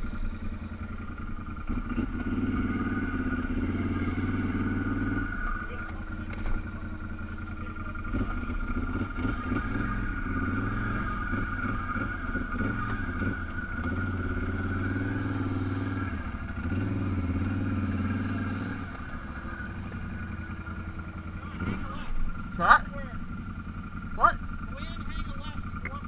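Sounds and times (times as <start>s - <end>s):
off-road vehicle engine: 0.0s - 26.0s.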